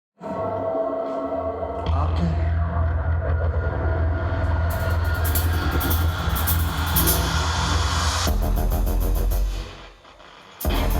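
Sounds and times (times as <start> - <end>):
low bass drone: 0.4 - 9.9, 10.6 - 10.9.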